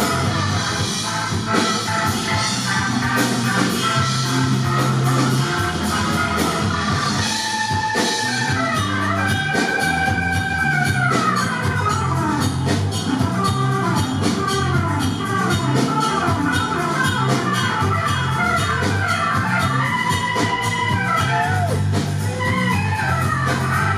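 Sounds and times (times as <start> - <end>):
drum kit beat: 0.0 - 23.9
rock band playing live: 0.0 - 23.9.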